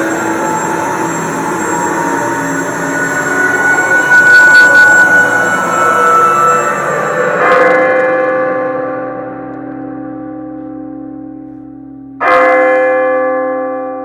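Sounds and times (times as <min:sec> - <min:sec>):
deep bell tone ringing: 0:00.0 - 0:14.0.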